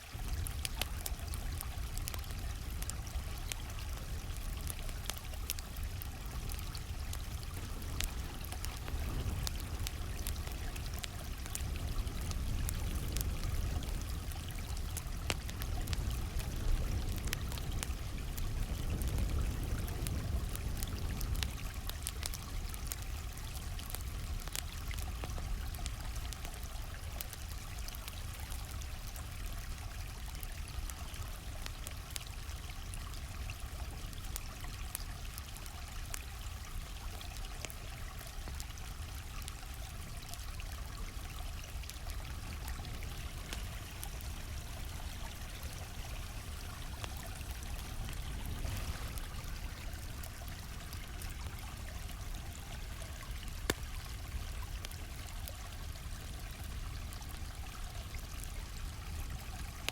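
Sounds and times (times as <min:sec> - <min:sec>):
campfire crackling and popping: 0:00.0 - 0:59.9
stream flowing: 0:00.0 - 0:59.9.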